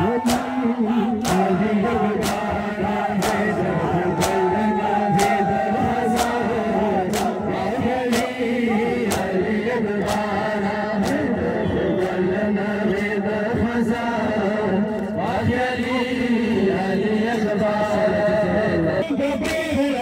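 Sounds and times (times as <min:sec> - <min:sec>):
crowd of men chanting: 0:00.0 - 0:20.0
rhythmic chest-beating slaps: 0:00.0 - 0:20.0.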